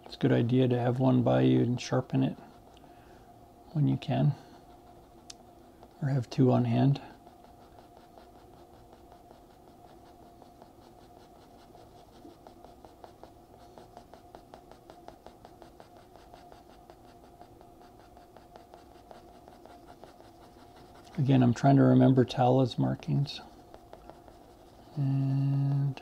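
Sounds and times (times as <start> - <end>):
faint steady hum: 0.0 - 26.0
pencil scratching on paper: 4.4 - 26.0.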